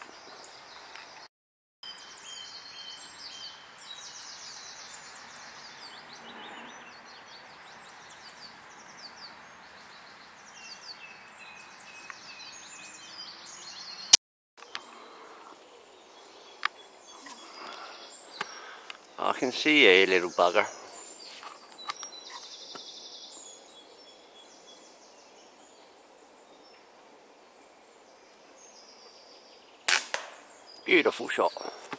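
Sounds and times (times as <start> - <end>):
birds chirping trills: 0.0 - 31.9
outdoor background hiss: 0.1 - 31.9.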